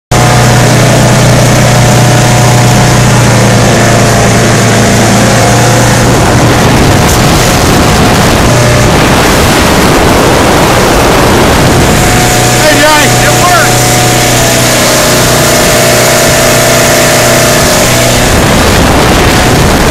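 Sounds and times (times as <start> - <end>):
motorboat engine humming: 0.1 - 19.9
rush of wind and water: 0.1 - 19.9.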